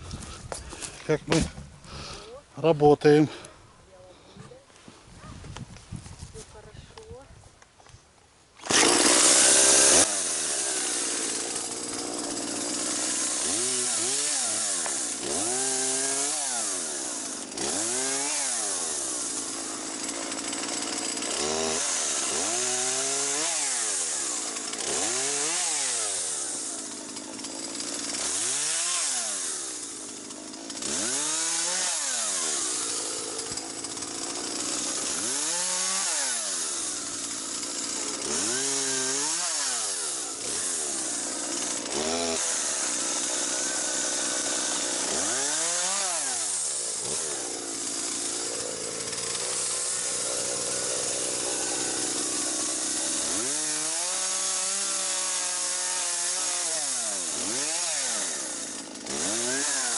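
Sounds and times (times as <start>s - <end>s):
chainsaw revving: 8.6s - 59.9s.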